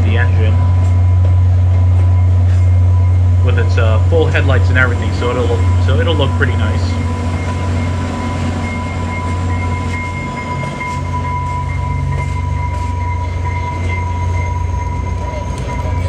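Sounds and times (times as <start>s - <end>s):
constant high whine: 0.0s - 16.0s
diesel locomotive engine drone: 0.0s - 16.0s.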